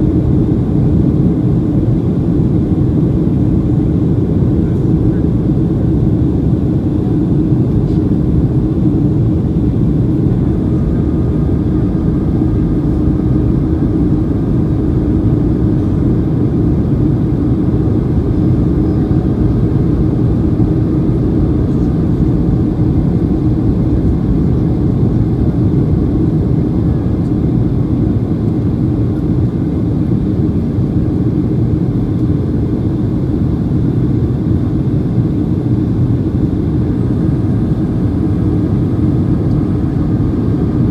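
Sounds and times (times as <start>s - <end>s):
airplane cabin drone in flight: 0.0s - 40.9s
jet engines rumbling: 0.0s - 40.9s.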